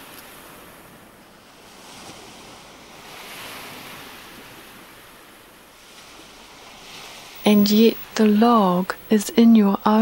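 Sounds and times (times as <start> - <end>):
surf washing onto shore: 0.0 - 9.2.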